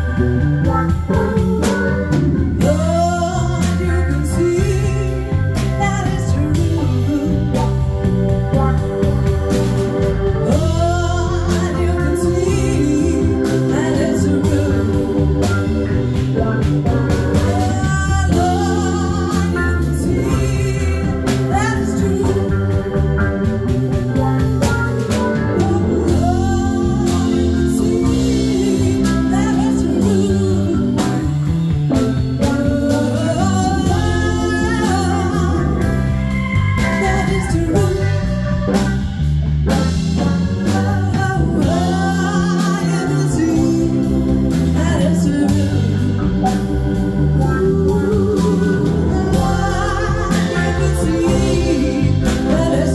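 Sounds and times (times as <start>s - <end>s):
woman singing lead: 0.0s - 39.2s, 40.6s - 52.9s
bass guitar: 0.0s - 52.9s
drums: 0.0s - 52.9s
electric guitar: 0.0s - 52.9s
organ: 0.0s - 52.9s.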